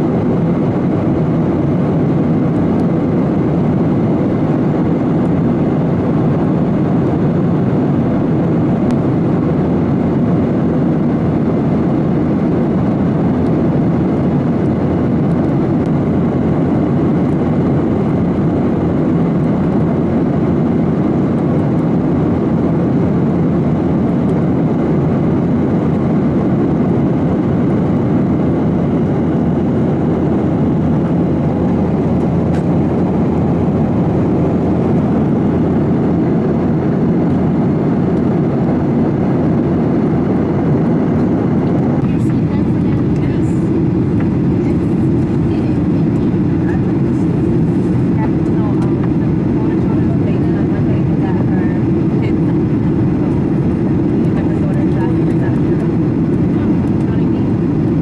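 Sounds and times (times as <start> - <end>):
jet airliner cabin noise: 0.0 - 58.0.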